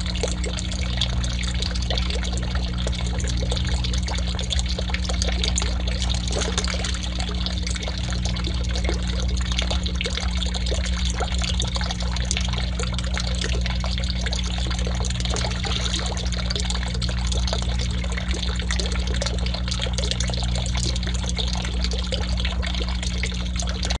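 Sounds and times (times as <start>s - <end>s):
steady low hum: 0.0s - 24.0s
water trickling into pond: 0.0s - 24.0s.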